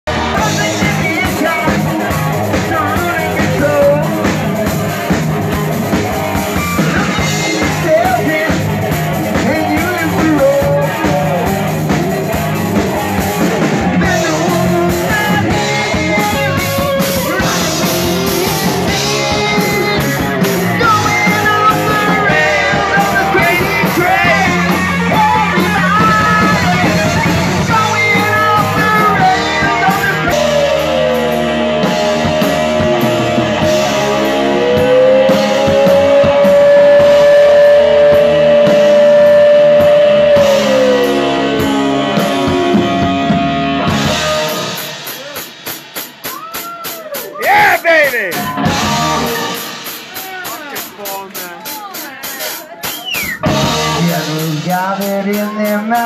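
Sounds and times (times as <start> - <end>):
heavy rock band playing: 0.0 - 56.0.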